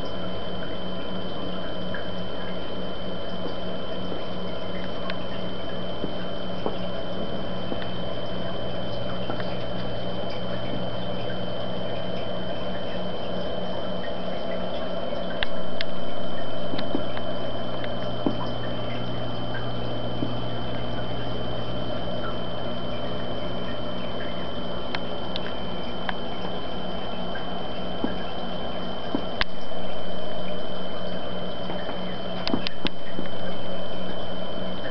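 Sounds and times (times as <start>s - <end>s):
aquarium hum and water noise: 0.0s - 34.9s.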